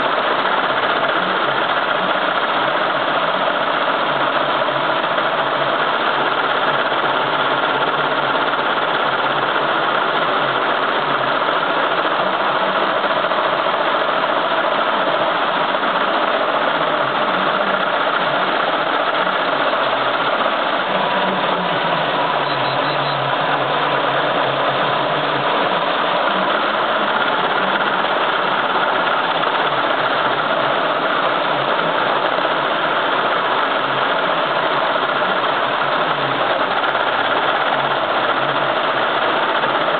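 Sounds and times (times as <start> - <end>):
embroidery machine clattering: 0.0 - 39.9.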